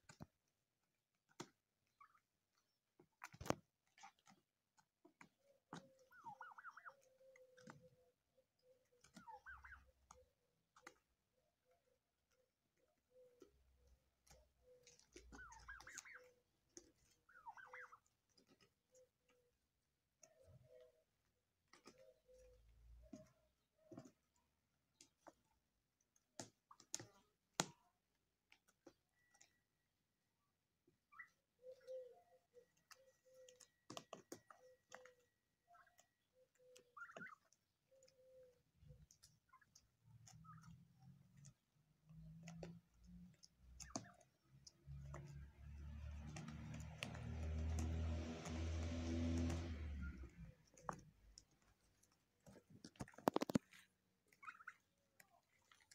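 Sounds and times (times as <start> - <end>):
turkeys pecking clicks: 0.0 - 55.9
turkeys soft low calls: 1.4 - 24.4, 30.9 - 47.9, 49.7 - 55.9.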